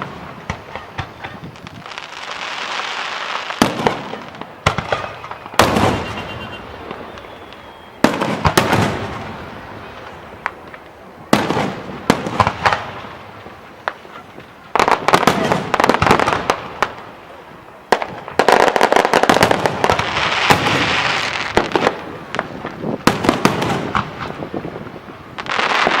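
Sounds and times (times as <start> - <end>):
fireworks bangs echoing: 0.0 - 26.0
fireworks crackling: 0.0 - 26.0.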